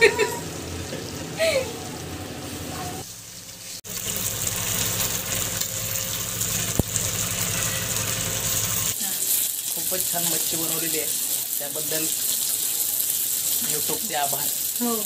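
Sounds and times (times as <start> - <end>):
fish sizzling in oil: 2.9 - 15.0.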